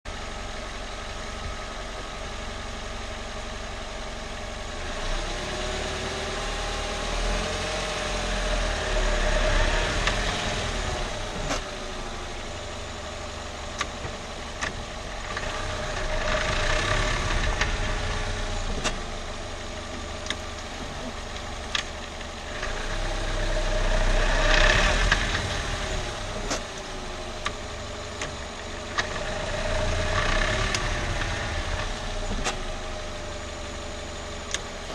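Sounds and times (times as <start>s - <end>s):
car engine: 0.0s - 34.9s
road noise: 0.2s - 34.9s.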